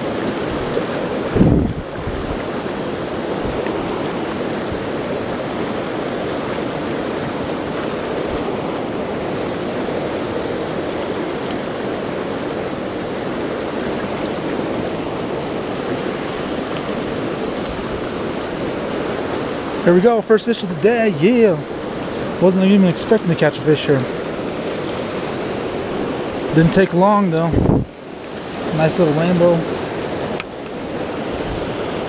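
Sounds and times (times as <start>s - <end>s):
whitewater rushing in creek: 0.0s - 32.0s.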